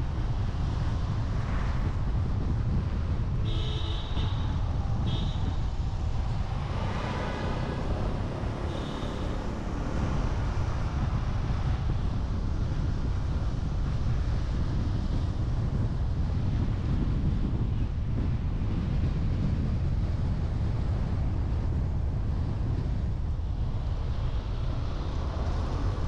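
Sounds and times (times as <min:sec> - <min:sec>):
street traffic: 0:00.0 - 0:26.0
wind on microphone: 0:00.0 - 0:26.0.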